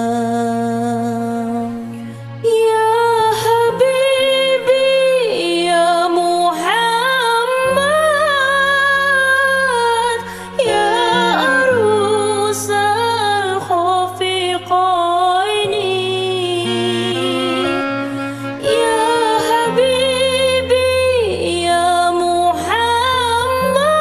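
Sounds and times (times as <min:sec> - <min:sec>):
person singing devotional song: 0:00.0 - 0:24.0.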